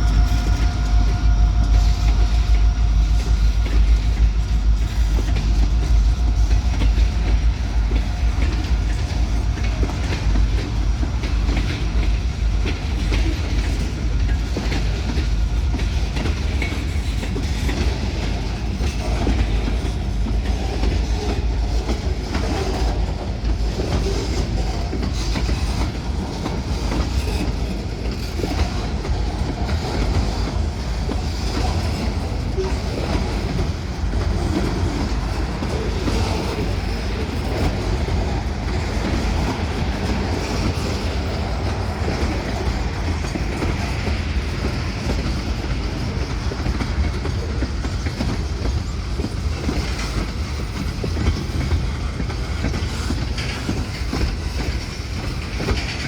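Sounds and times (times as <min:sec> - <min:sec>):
train cars rumbling past: 0:00.0 - 0:56.0.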